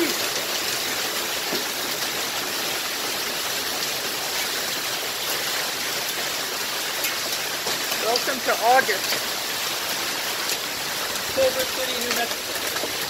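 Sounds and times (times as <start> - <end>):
heavy rain and hail falling: 0.0 - 13.0.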